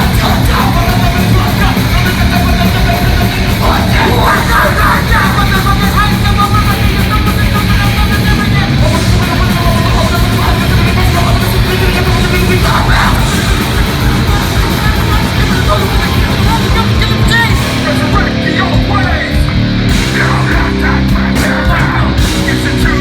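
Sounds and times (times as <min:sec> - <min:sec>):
heavy metal band playing live: 0:00.0 - 0:23.0
yelled vocals: 0:00.0 - 0:23.0.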